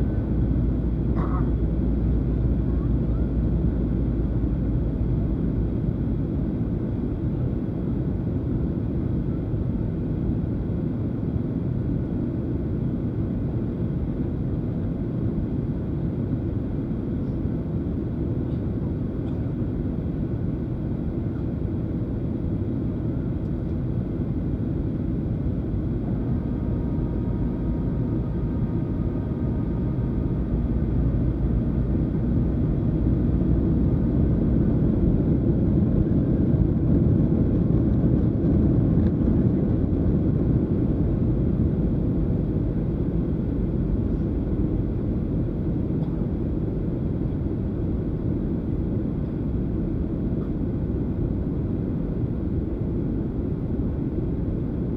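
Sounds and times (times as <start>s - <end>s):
jet cabin rumble: 0.0s - 54.9s.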